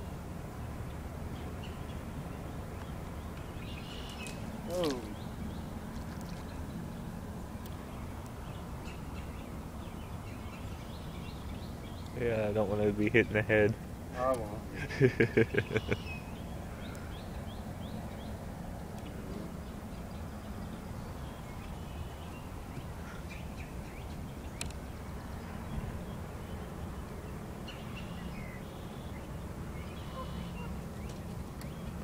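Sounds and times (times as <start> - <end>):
birds chirping: 0.9 - 32.0.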